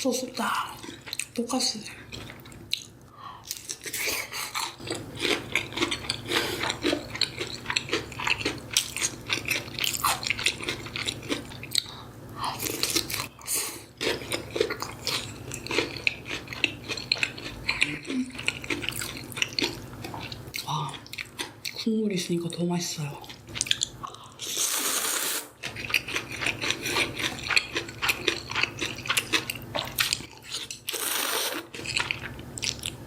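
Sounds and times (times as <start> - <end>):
chewing crunchy food: 0.3 - 21.9, 23.2 - 33.0.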